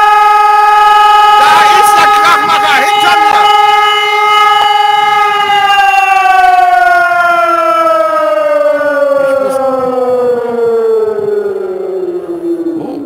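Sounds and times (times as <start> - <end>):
electronic siren winding down: 0.0 - 13.0.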